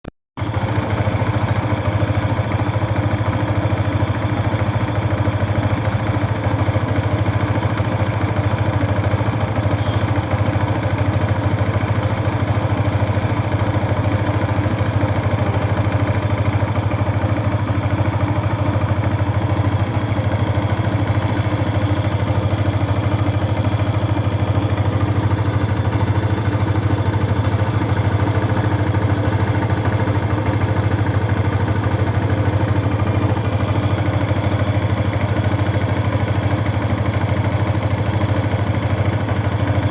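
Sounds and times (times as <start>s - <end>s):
motorcycle engine idling: 0.4s - 39.9s.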